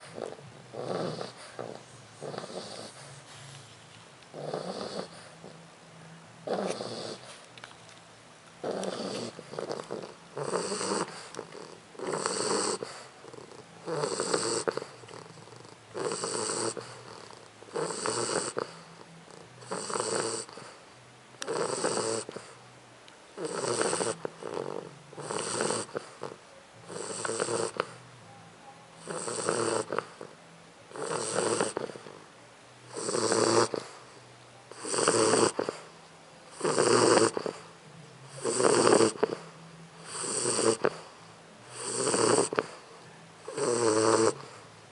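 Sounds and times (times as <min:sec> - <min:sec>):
puppy snoring: 0:00.0 - 0:05.7, 0:06.4 - 0:07.5, 0:08.6 - 0:22.7, 0:23.3 - 0:28.1, 0:29.0 - 0:44.9.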